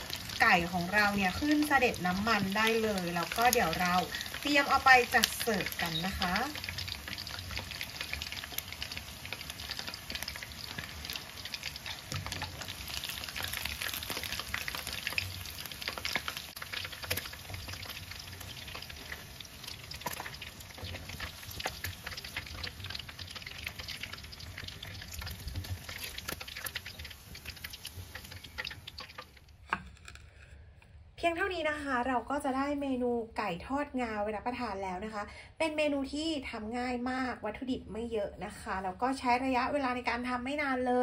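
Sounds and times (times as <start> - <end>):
chicken deep-frying in oil: 0.0 - 30.3, 31.5 - 41.0.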